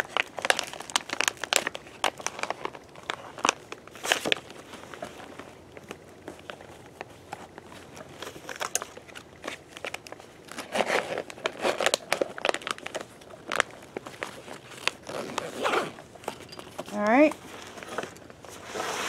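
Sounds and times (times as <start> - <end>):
bag crinkling and rustling: 0.0 - 19.0.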